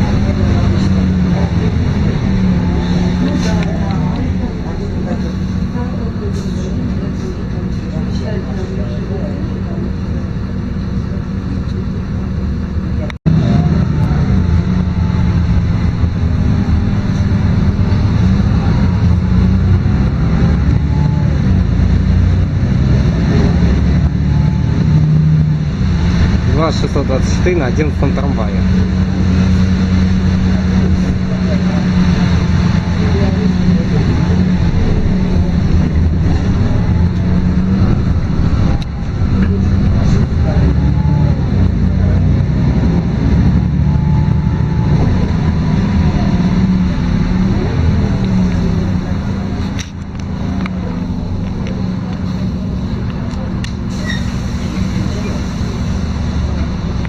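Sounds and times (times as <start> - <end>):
bus diesel engine running: 0.0 - 57.0
road noise: 0.0 - 57.0.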